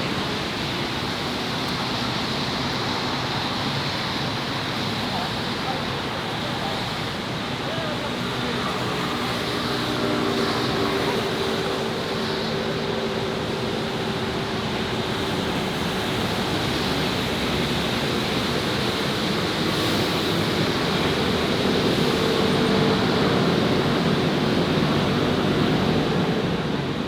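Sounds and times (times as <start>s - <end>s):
city traffic noise: 0.0s - 27.0s.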